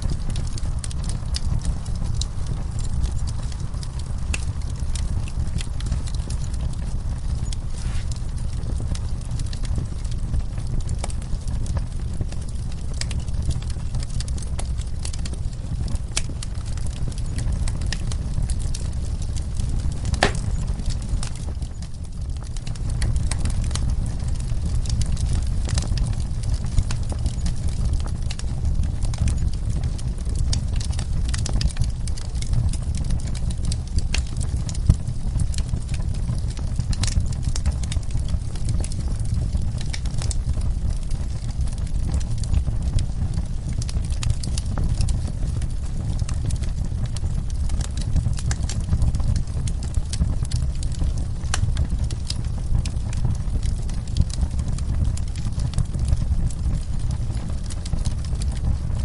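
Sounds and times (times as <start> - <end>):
fire pops and snaps: 0.0 - 59.0
low fire rumble: 0.0 - 59.0
wood fire crackling: 0.0 - 59.0.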